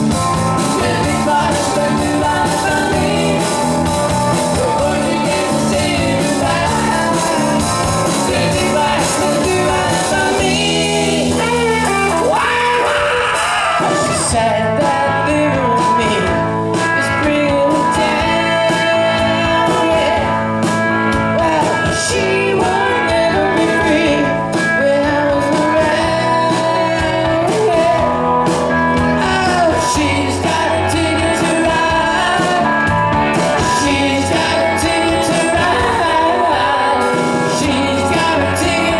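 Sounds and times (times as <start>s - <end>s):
drums: 0.0s - 38.9s
electric bass: 0.0s - 38.9s
electric guitar: 0.0s - 38.9s
man singing: 0.0s - 38.9s.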